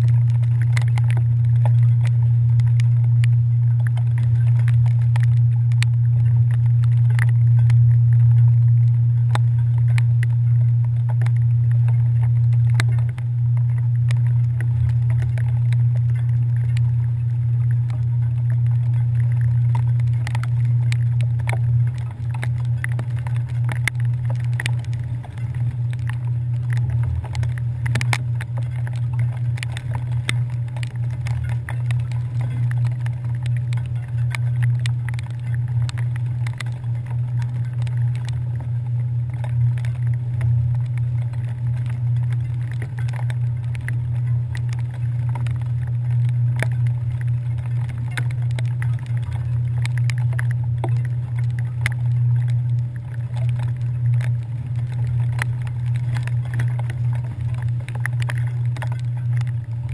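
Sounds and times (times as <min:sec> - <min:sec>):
light ticks: 0:00.0 - 0:59.9.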